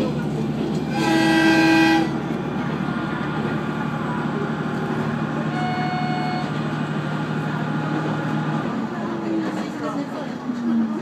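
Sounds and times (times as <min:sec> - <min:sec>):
railcar engine drone: 0:00.0 - 0:11.0
wheel and rail noise: 0:00.0 - 0:11.0.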